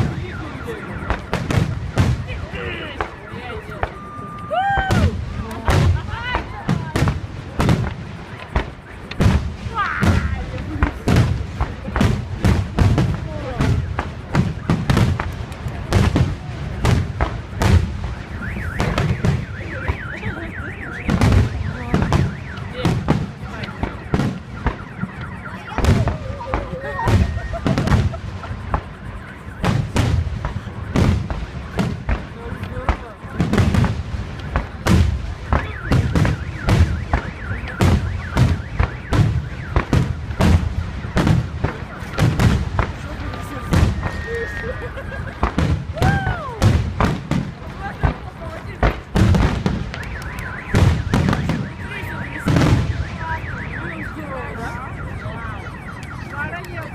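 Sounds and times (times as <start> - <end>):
car alarm wailing: 0.0 - 56.9
fireworks bursting with bangs: 0.0 - 56.9.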